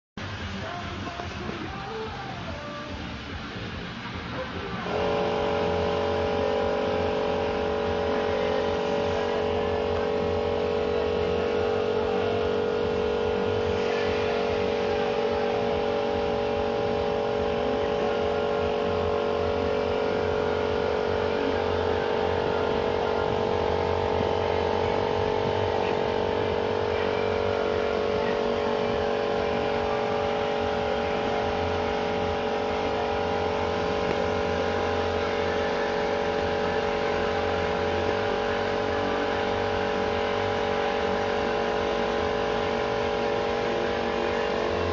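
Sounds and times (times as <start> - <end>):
pressure washer whining: 0.2 - 44.9.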